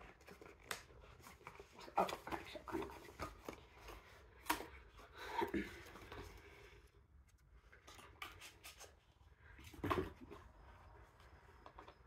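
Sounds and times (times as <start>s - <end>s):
cardboard and paper rustling: 0.0s - 12.0s.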